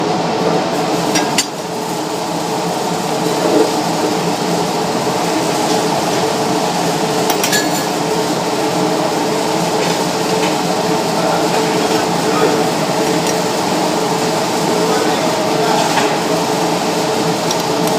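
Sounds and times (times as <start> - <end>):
gas welding torch hissing: 0.7 - 17.9.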